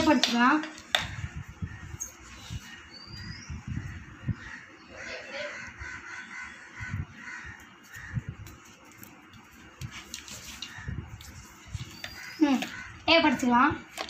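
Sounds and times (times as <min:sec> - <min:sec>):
birds calling: 0:00.0 - 0:13.8.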